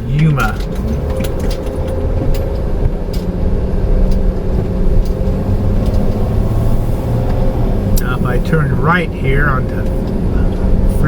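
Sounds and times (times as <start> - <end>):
engine and road drone: 0.0 - 11.0.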